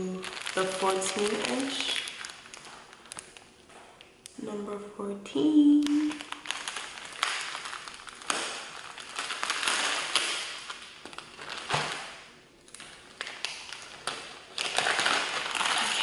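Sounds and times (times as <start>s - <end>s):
plastic bag crinkling: 0.0s - 4.2s, 5.6s - 16.0s.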